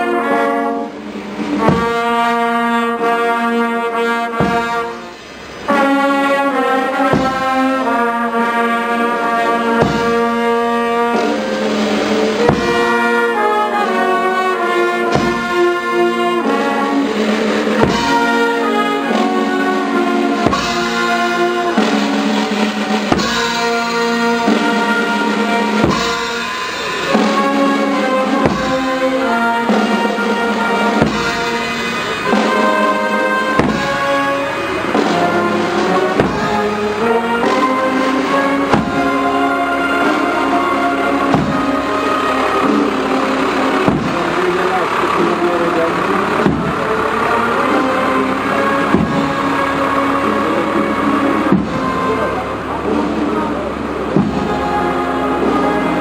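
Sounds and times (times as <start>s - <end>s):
brass band playing slow march: 0.0s - 56.0s
drum strokes: 0.5s - 56.0s.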